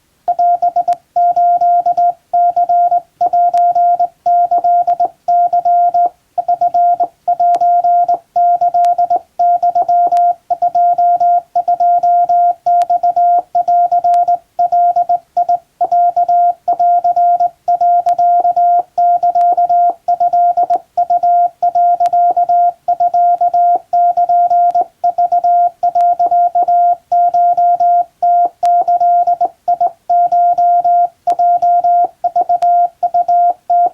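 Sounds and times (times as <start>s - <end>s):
morse code tone: 0.3s - 33.9s.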